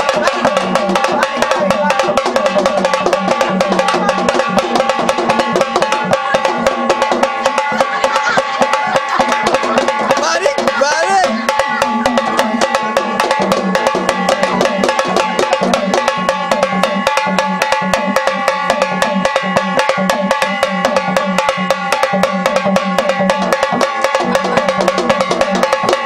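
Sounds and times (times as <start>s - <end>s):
fast dense drumming: 0.0s - 26.0s.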